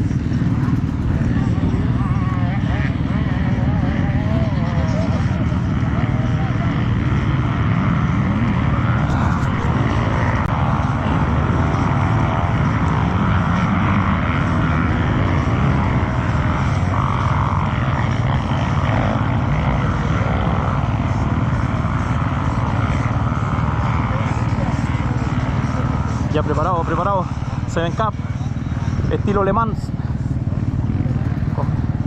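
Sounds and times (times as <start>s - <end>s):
racing motorcycle engines: 0.0s - 32.0s.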